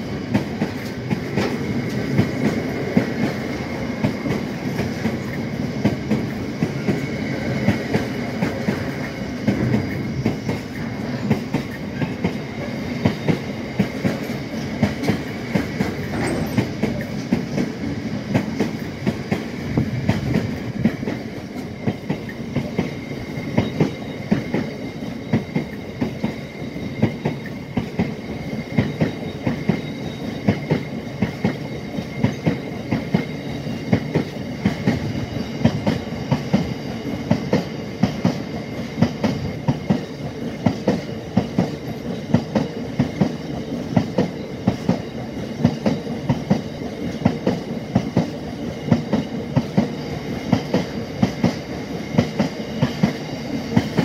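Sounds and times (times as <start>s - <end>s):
continuous train rumble: 0.0s - 54.0s
train wheels clattering over rail joints: 0.0s - 54.0s.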